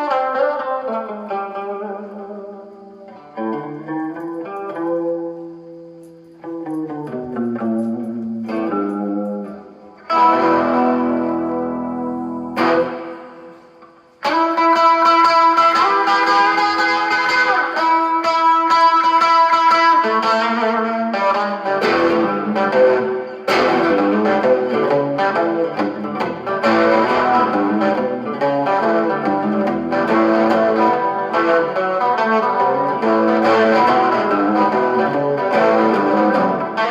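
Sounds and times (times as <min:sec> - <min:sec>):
electric guitar chords: 0:00.0 - 0:36.9.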